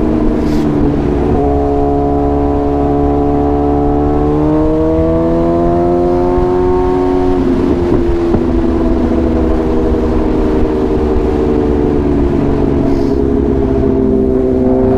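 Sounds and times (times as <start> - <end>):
motorcycle engine running hard: 0.0 - 14.9.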